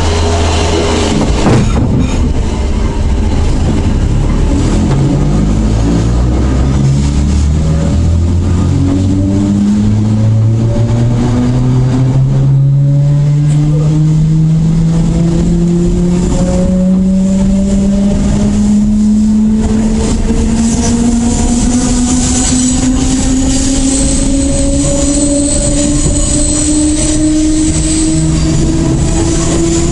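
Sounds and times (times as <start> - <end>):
electric train motors roaring: 0.0 - 29.9.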